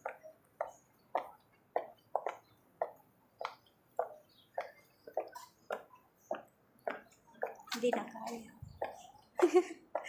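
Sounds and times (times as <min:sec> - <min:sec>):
high heels clicking on stone: 0:00.0 - 0:09.0.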